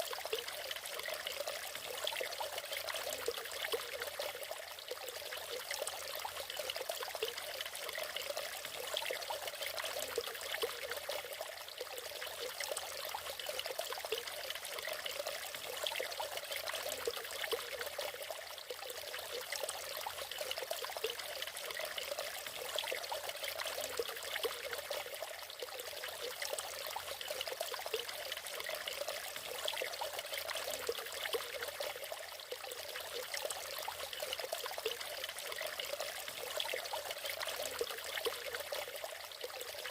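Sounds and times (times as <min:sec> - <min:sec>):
small waterfall splashing and trickling: 0:00.0 - 0:39.9.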